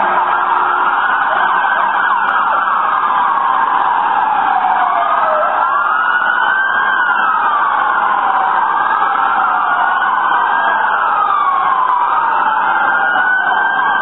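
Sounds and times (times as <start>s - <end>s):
police sirens wailing: 0.0s - 14.0s.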